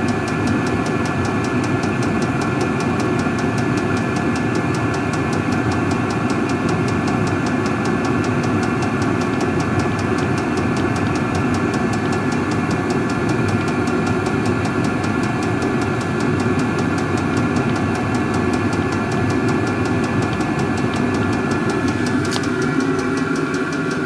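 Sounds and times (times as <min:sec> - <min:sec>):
fuel pump ticking: 0:00.0 - 0:24.0
heater fan droning: 0:00.0 - 0:24.0.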